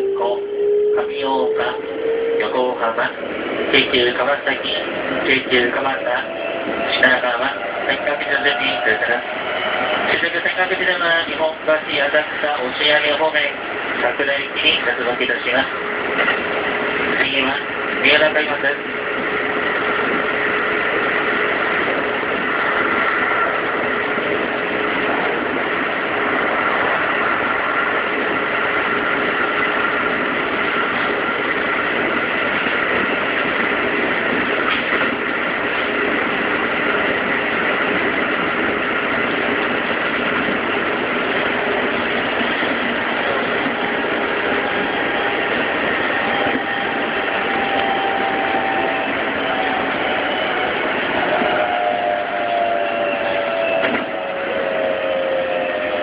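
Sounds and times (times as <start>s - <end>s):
electric train whining tones: 0.0s - 56.0s
train wheels running on rails: 0.0s - 56.0s.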